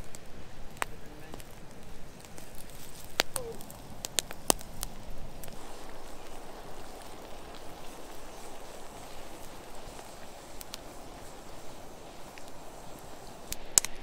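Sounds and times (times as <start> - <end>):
campfire crackling: 0.0 - 14.0
sharp pops of fire: 0.0 - 14.0.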